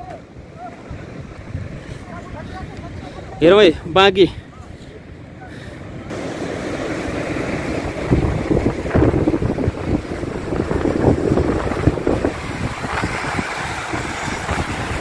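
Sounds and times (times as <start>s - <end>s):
floodwater rushing over boulders: 0.0s - 15.0s
wind buffeting microphone: 0.0s - 15.0s.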